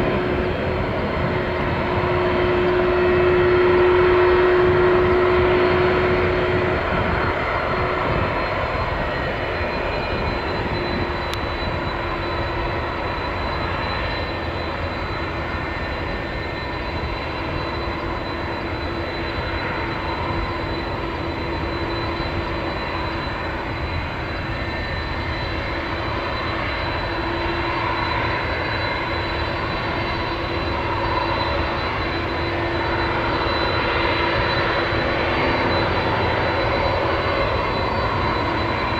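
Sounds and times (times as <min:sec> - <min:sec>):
jet engines rumbling: 0:00.0 - 0:38.9
thin high whine: 0:00.0 - 0:38.9.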